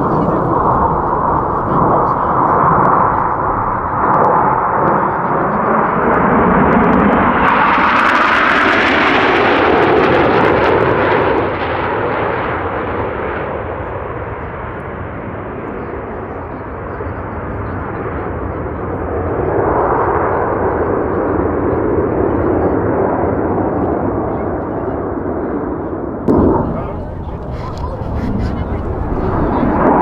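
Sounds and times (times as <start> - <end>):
fighter jets flying past: 0.0 - 30.0.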